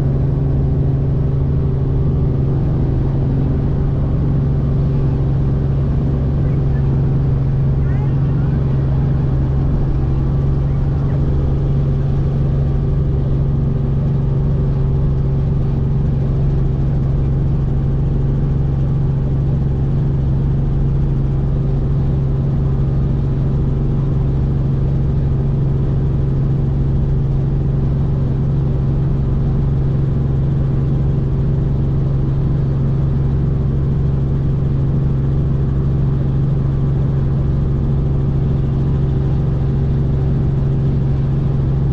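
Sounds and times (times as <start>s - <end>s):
helicopter rotor and engine drone: 0.0s - 41.9s.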